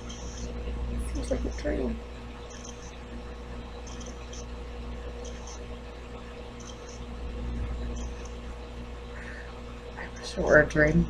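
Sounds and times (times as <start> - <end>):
low electrical hum and hiss: 0.0 - 11.0.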